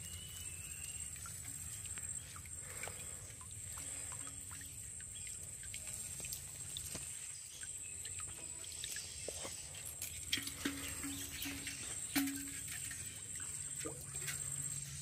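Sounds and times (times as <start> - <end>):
water dripping into a metal pot: 0.0 - 15.0.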